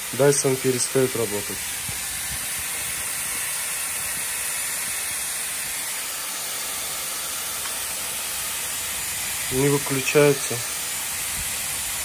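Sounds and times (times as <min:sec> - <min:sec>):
hair styler blowing air: 0:00.0 - 0:12.0.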